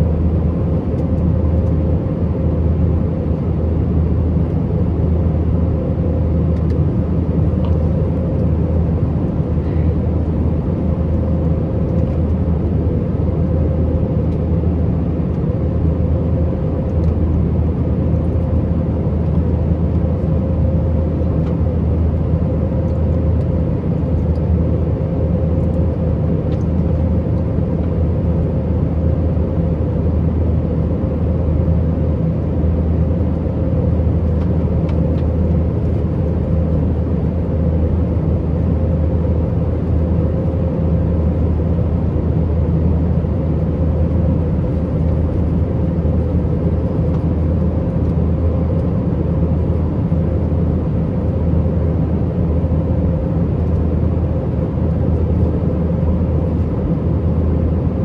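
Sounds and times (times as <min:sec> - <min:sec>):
faint constant hum: 0:00.0 - 0:58.0
jet engines droning: 0:00.0 - 0:58.0.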